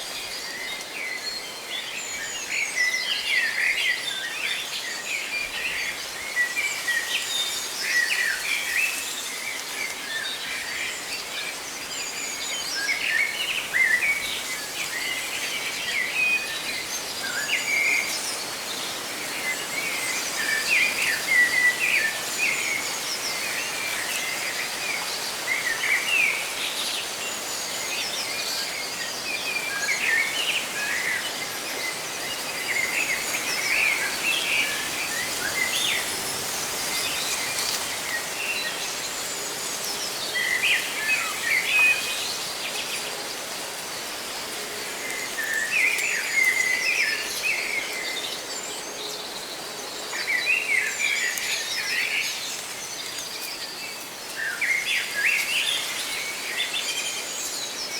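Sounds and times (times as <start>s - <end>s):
leaves rustling in wind: 0.0s - 57.9s.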